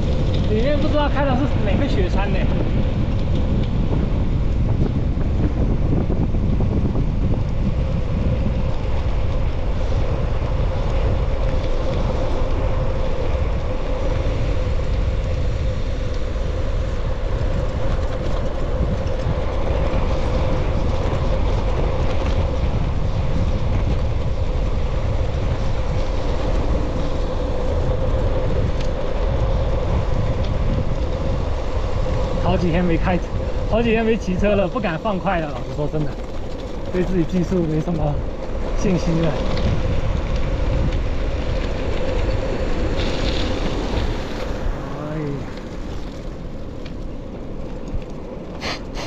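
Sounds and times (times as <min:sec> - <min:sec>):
bike hum: 0:00.0 - 0:49.0
wind buffeting microphone: 0:00.0 - 0:49.0.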